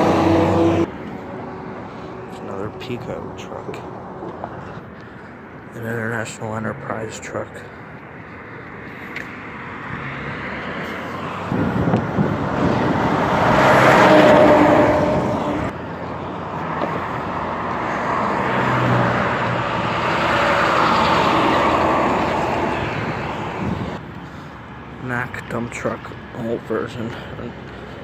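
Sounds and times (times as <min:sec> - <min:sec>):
traffic passing close by: 0:00.0 - 0:28.0
truck passing: 0:00.0 - 0:28.0.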